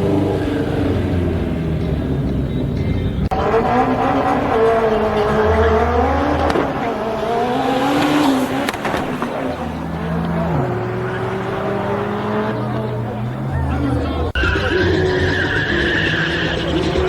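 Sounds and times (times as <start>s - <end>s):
car engines revving: 0.0s - 17.0s
tyre squeal: 2.3s - 17.0s.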